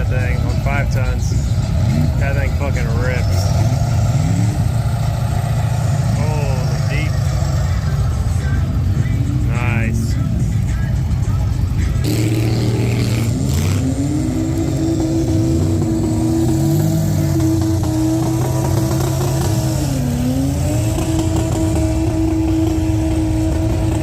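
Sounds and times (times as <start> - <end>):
truck engine revving high: 0.0 - 24.0.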